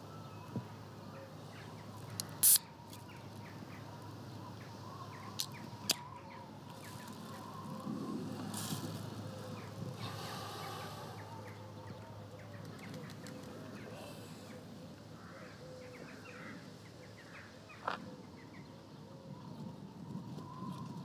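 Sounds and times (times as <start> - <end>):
birds chirping: 0.0 - 21.0
low steady background noise: 0.0 - 21.0.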